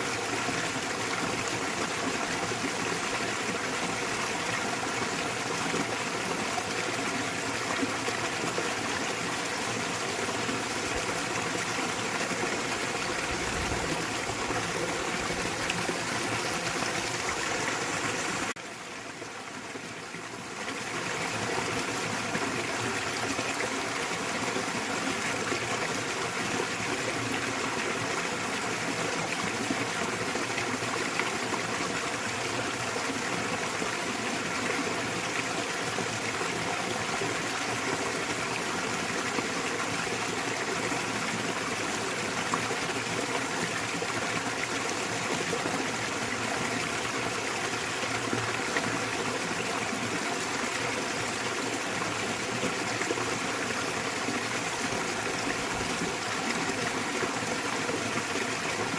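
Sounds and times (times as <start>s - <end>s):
waterfall rushing and splashing: 0.0s - 18.6s, 20.7s - 58.9s.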